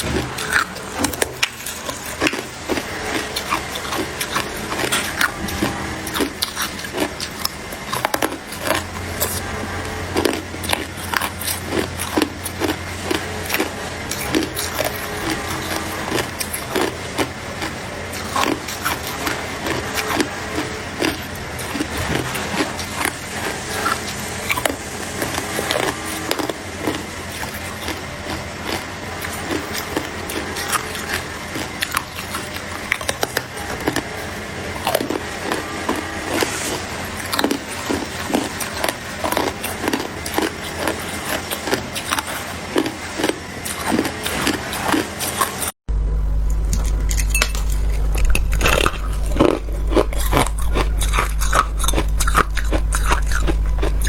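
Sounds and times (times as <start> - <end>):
person chewing ice: 0.0 - 45.8, 46.5 - 54.0.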